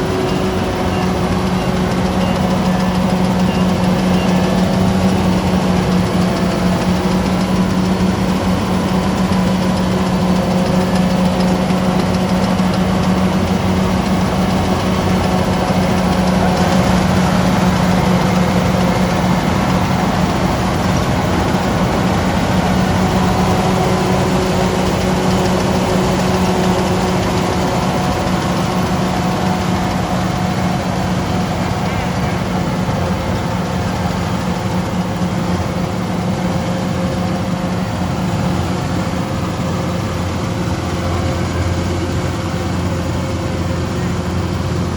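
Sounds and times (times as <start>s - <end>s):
diesel engine running steadily: 0.0s - 44.9s
mechanical clatter: 0.0s - 44.9s.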